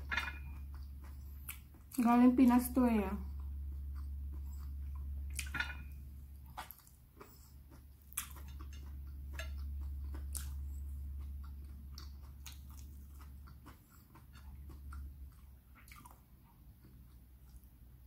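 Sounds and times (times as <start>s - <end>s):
close-up chewing: 0.0s - 2.6s, 3.2s - 18.0s
steady low hum: 0.0s - 18.0s.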